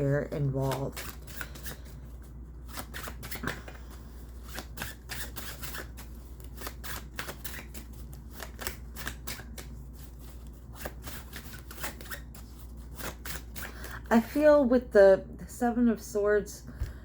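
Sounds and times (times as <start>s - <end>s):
cards being shuffled: 0.3s - 14.1s.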